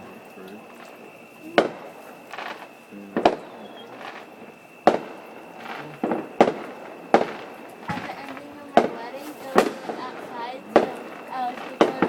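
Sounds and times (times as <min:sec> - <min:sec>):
fireworks bangs with crackle: 0:00.0 - 0:12.0.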